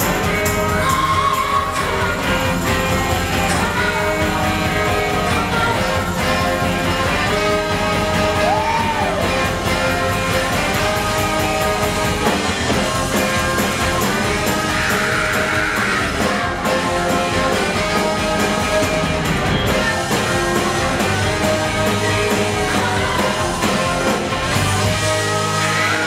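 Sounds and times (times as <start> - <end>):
bass: 0.0 - 26.0
drums: 0.0 - 26.0
electric guitars: 0.0 - 26.0
keyboard: 0.0 - 26.0
person singing: 0.0 - 26.0
saxophone: 0.0 - 26.0.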